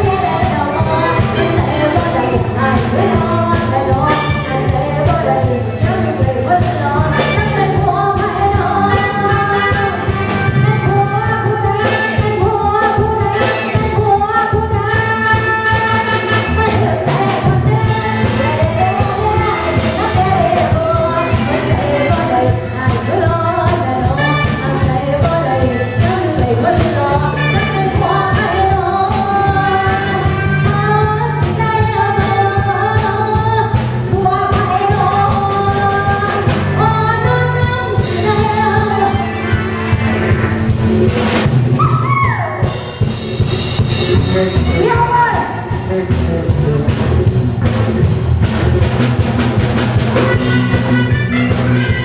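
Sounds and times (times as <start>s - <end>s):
woman singing: 0.0s - 40.4s, 44.1s - 46.8s
live band music: 0.0s - 52.0s.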